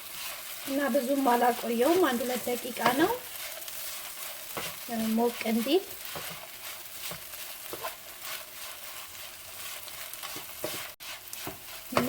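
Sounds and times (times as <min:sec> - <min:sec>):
flatbread sizzling in a frying pan: 0:00.0 - 0:12.0
stirring scrapes: 0:00.0 - 0:12.0.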